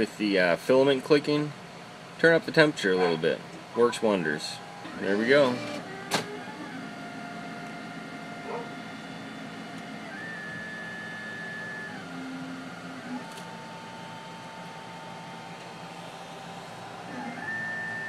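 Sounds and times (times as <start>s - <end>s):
printer motors whining: 2.8s - 18.0s.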